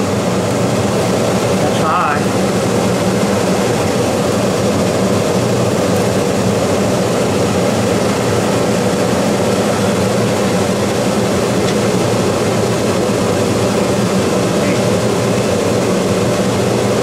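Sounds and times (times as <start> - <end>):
air conditioner running: 0.0 - 17.0.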